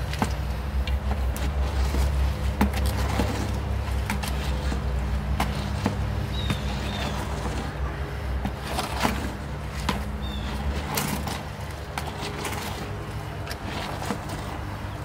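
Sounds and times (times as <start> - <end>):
hoe scraping concrete mix: 0.0 - 15.0.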